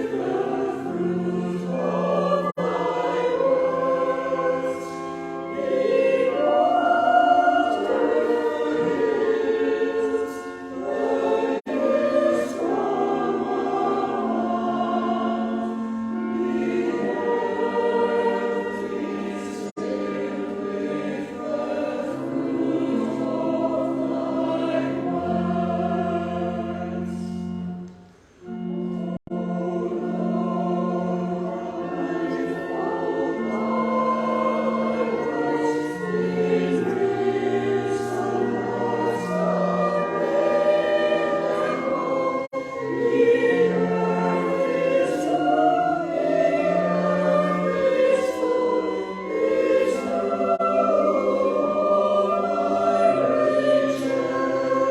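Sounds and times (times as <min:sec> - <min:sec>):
church choir singing: 0:00.0 - 0:54.9.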